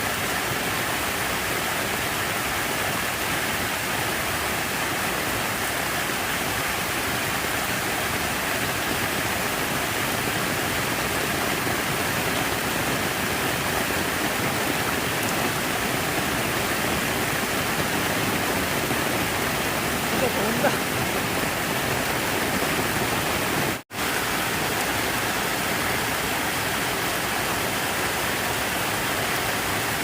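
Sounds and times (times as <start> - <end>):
running water rushing: 0.0 - 30.0.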